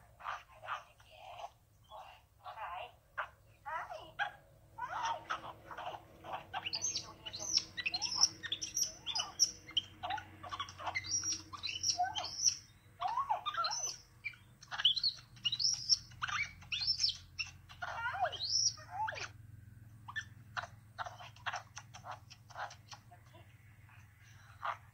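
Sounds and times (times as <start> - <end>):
monkey chirping and squeaking: 0.2 - 2.2, 3.2 - 19.4, 20.0 - 24.9.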